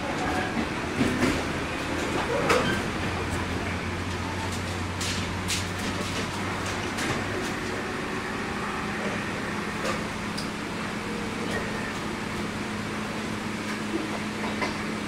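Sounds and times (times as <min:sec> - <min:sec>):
electric train interior hum: 0:00.0 - 0:15.0.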